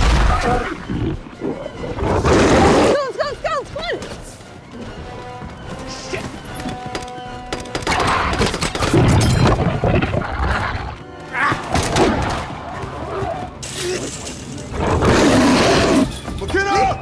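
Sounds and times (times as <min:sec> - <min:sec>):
tense orchestral film score: 0:00.0 - 0:17.0.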